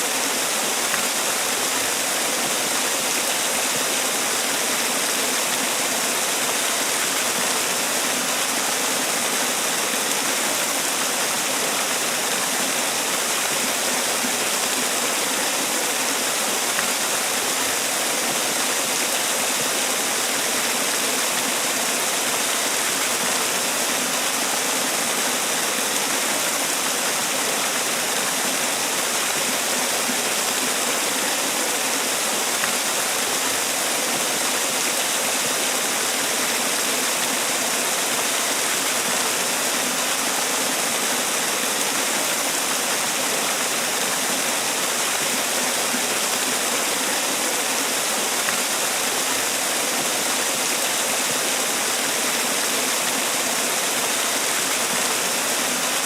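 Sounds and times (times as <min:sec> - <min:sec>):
waterfall pouring and splashing: 0:00.0 - 0:56.0.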